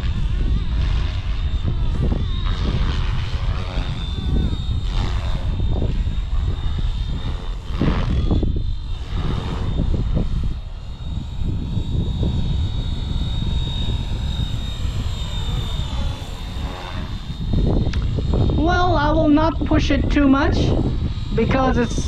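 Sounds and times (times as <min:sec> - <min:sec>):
rc helicopter motor whine: 0:00.0 - 0:22.0
wind rumble on microphone: 0:00.0 - 0:22.0.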